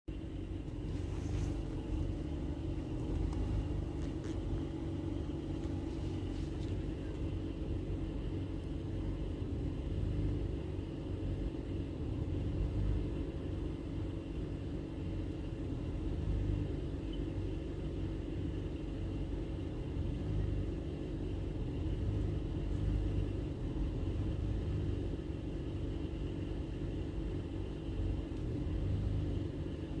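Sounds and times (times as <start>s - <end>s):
car engine idling roughly: 0.1s - 30.0s.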